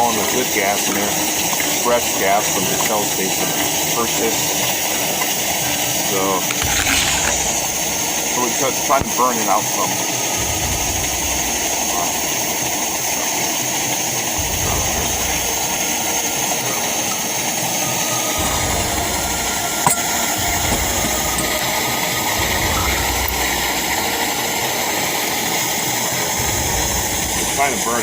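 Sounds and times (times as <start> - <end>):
camp stove burner hissing: 0.0 - 28.0.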